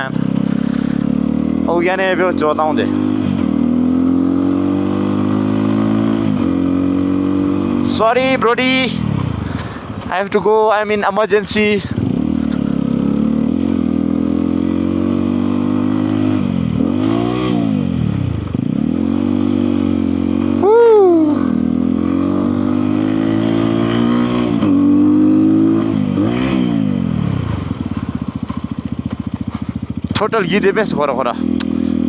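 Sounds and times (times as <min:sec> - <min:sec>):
motorcycle engine shifting gears: 0:00.0 - 0:10.4, 0:11.8 - 0:32.0.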